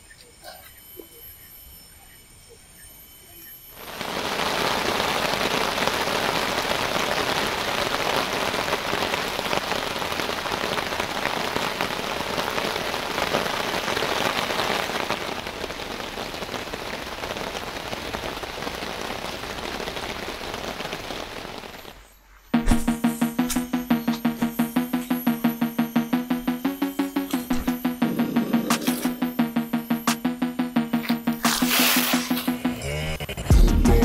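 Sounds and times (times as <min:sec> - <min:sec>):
steady rain falling: 0:03.7 - 0:32.8.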